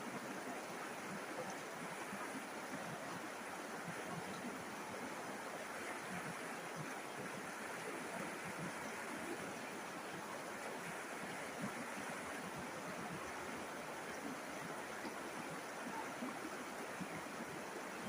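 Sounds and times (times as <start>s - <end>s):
river water flowing over stones: 0.0s - 18.0s.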